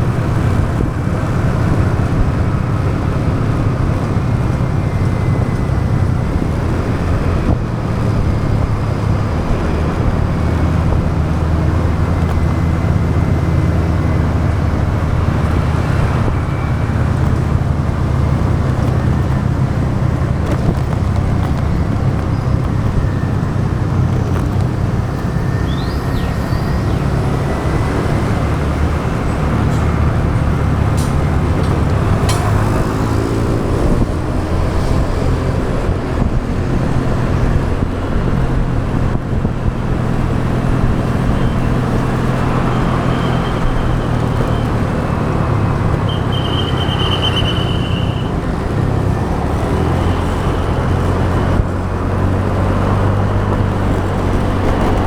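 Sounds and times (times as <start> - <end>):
motorbike engine running: 0.0 - 55.0
road and wind noise: 0.0 - 55.0.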